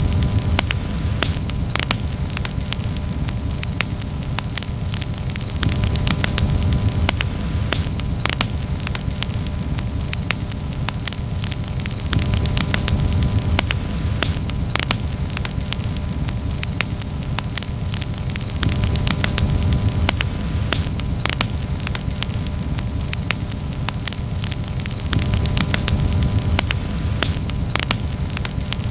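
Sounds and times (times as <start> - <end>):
campfire pops and snaps: 0.0 - 28.9
fire low rumble: 0.0 - 28.9.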